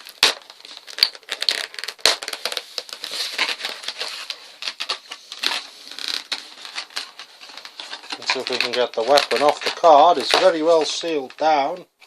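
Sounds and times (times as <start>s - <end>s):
packaging crinkling: 0.0s - 11.9s.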